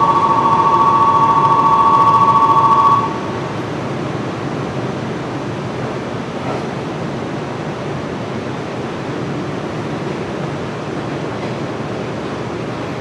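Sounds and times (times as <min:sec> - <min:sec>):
train running on track: 0:00.0 - 0:13.0.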